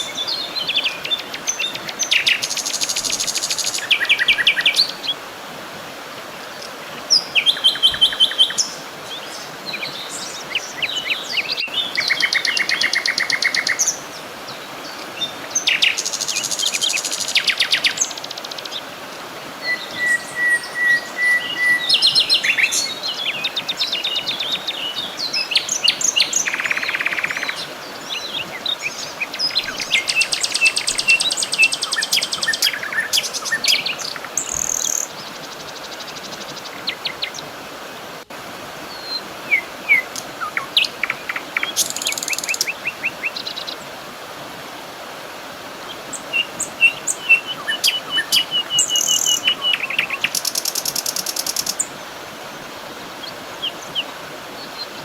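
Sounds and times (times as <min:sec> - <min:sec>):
wild birds singing and calling: 0:00.0 - 0:05.2, 0:06.3 - 0:37.6, 0:38.8 - 0:44.0, 0:45.8 - 0:55.0
steady hiss: 0:00.0 - 0:20.6, 0:21.9 - 0:55.0.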